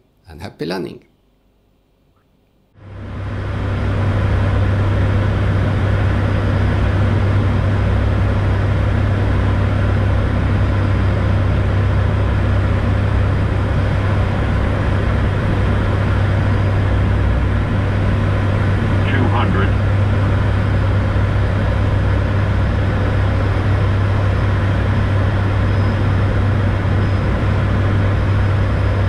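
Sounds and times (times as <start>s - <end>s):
air rushing past cockpit: 2.8s - 29.0s
propeller and engine drone: 2.8s - 29.0s
strong low hum: 2.8s - 29.0s.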